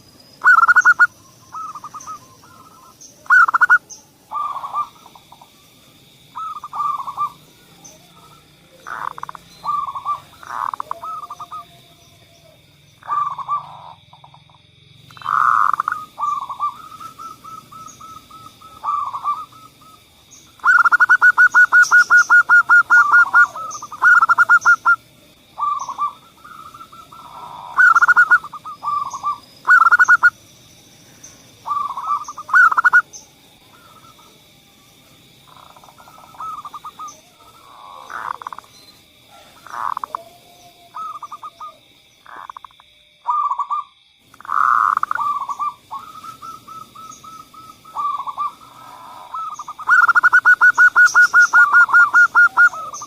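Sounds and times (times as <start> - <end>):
doves cooing and trilling: 0.0 - 53.0.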